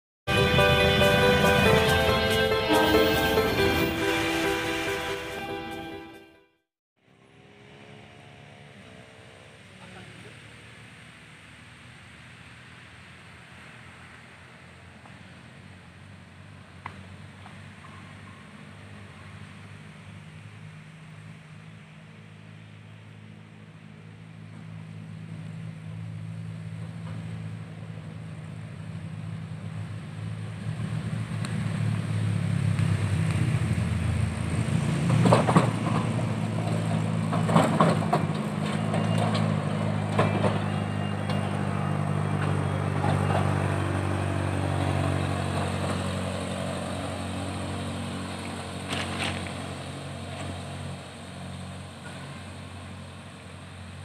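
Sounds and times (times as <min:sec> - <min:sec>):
truck engine running: 0:00.3 - 0:05.5, 0:09.7 - 0:54.0.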